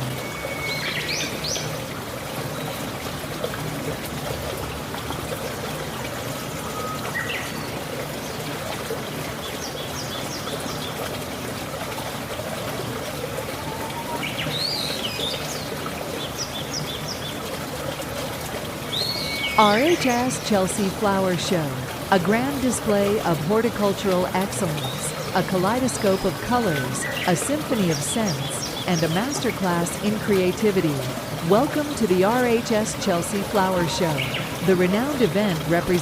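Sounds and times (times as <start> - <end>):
water trickling: 0.0 - 36.0.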